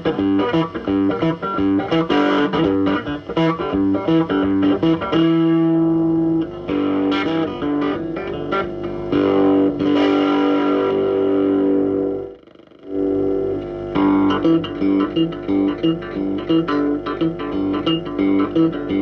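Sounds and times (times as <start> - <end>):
electric guitar picked notes: 0.0 - 19.0.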